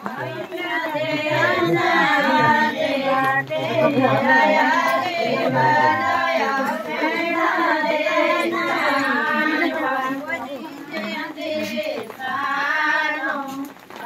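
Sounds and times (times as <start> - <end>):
women singing folk song: 0.0 - 14.0.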